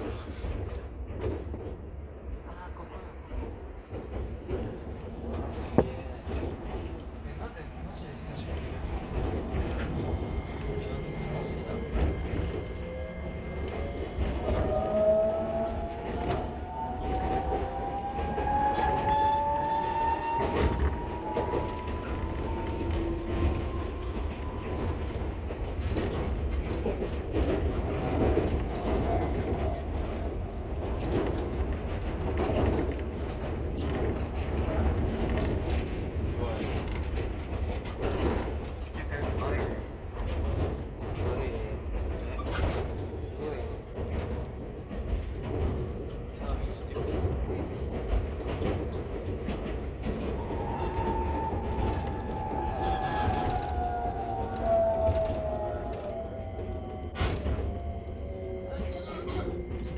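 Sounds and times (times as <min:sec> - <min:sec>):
electric train rumbling: 0:00.0 - 0:59.9.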